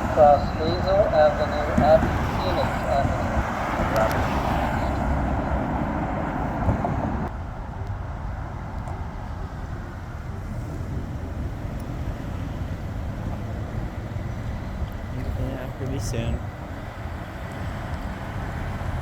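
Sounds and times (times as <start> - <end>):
vehicle passing: 0.0 - 7.3, 9.8 - 19.0
steady traffic hum: 0.0 - 19.0.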